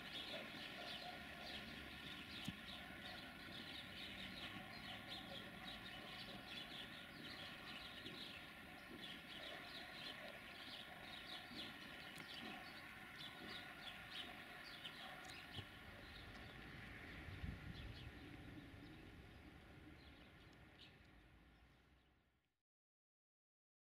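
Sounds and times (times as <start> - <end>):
small birds chirping: 0.0 - 22.1
distant road traffic: 0.0 - 22.3.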